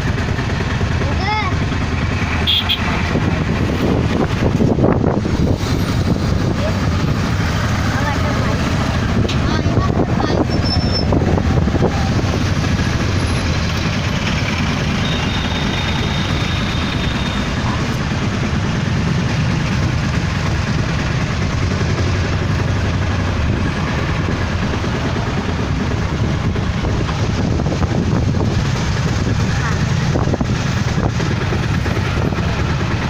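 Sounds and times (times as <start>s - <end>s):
passenger train rumbling: 0.0s - 33.0s.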